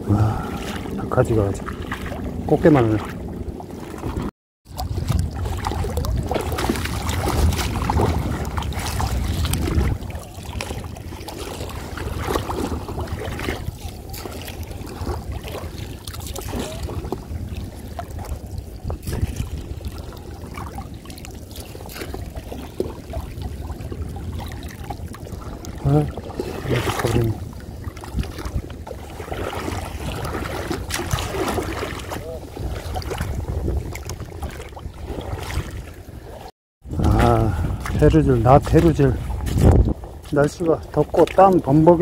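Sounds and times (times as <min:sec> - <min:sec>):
water sloshing around wading legs: 0:00.0 - 0:42.0.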